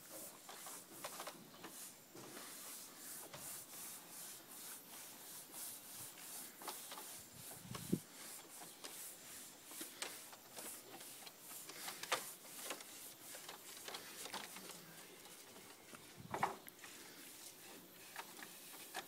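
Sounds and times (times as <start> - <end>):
pad scrubbing wood: 0.0 - 15.6.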